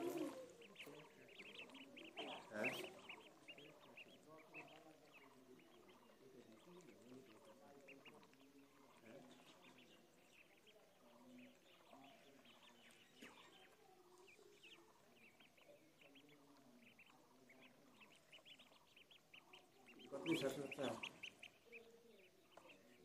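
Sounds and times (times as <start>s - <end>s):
ducklings peeping: 0.0s - 23.0s.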